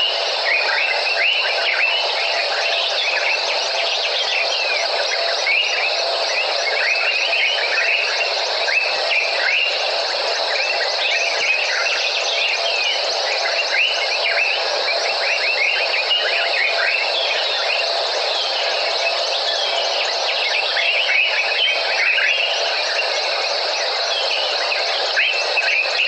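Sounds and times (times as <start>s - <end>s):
steady high-pitched hum: 0.0s - 26.0s.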